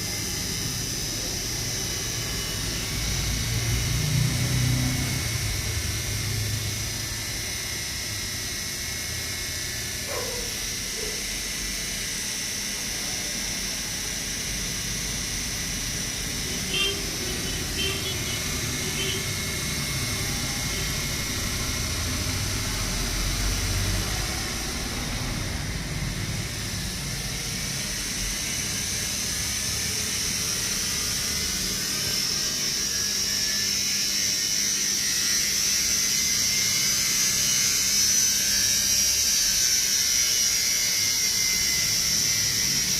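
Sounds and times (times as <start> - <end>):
motor whirring with high whine: 0.0 - 42.9.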